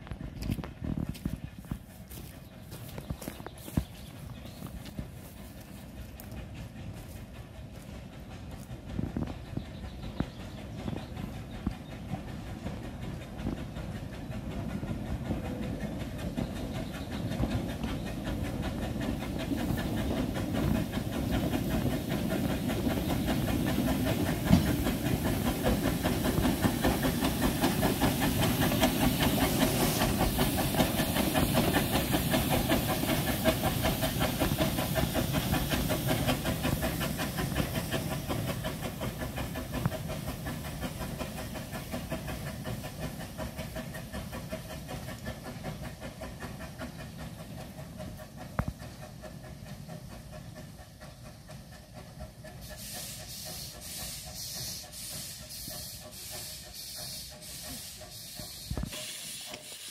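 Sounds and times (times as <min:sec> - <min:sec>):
steam locomotive exhaust beat: 0:00.0 - 0:59.9
steam hissing: 0:03.6 - 0:59.9.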